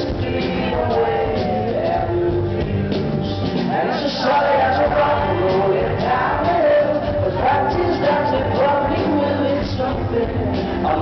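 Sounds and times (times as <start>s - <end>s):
live rock band with strings: 0.0s - 11.0s
man singing: 0.0s - 11.0s.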